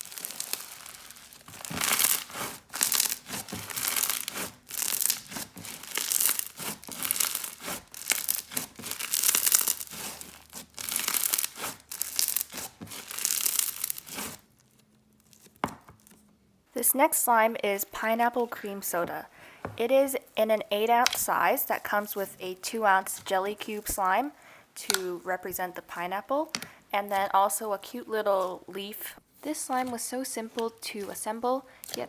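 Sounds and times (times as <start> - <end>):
crunchy slime crackling: 0.0 - 15.7, 18.0 - 32.0.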